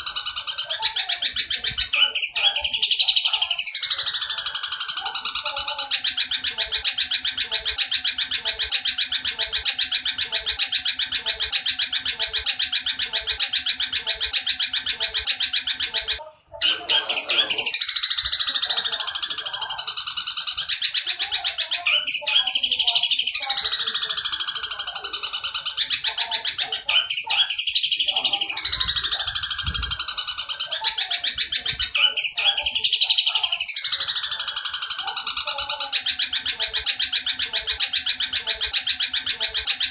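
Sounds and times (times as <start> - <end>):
bird harsh chattering call: 0.0 - 39.9.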